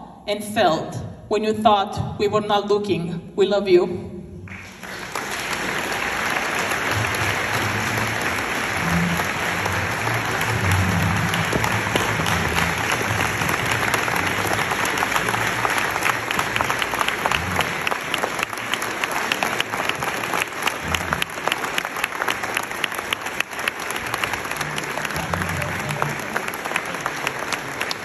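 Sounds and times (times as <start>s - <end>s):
audience applause: 4.5s - 28.0s
sharp close claps: 4.5s - 28.0s.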